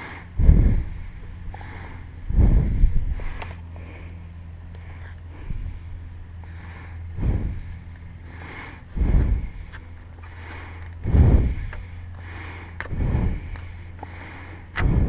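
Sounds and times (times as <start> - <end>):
breath puffs on microphone: 0.0 - 4.2, 6.5 - 15.0
steady low hum: 0.0 - 15.0.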